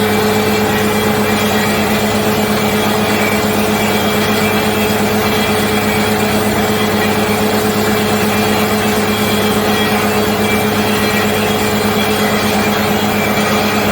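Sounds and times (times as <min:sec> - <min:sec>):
drilling rig engine drone: 0:00.0 - 0:13.9.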